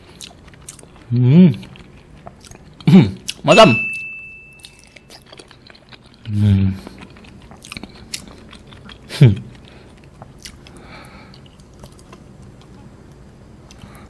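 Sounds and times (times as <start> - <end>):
chewing mouth clicks: 0.1 - 3.4, 4.6 - 12.8.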